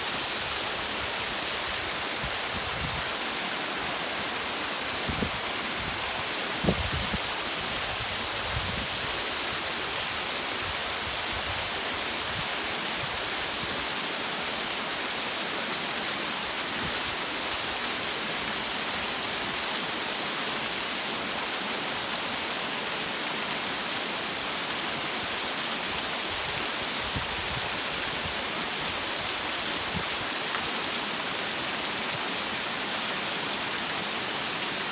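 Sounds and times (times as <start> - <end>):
waterfall and river rushing: 0.0 - 34.9.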